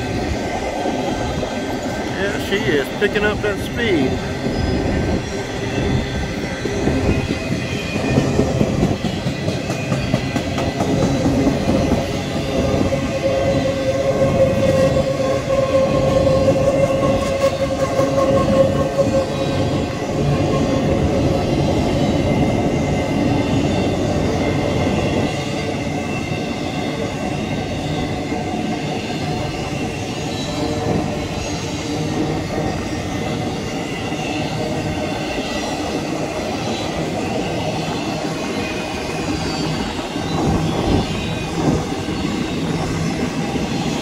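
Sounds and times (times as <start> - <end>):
freight train wheels rolling: 0.0 - 44.0.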